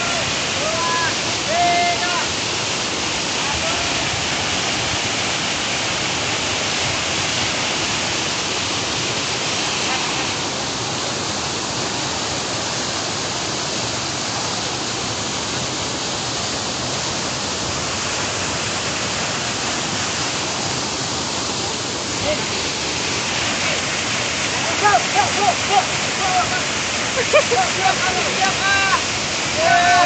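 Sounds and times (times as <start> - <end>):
waterfall rushing onto rocks: 0.0 - 30.0.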